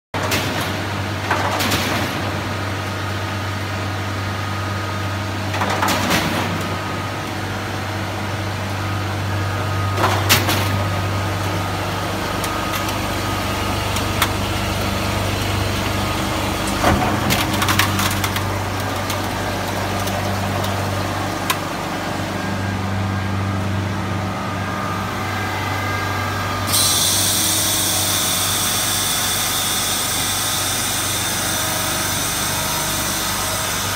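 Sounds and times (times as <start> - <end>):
ice machine humming: 6.6 - 33.9.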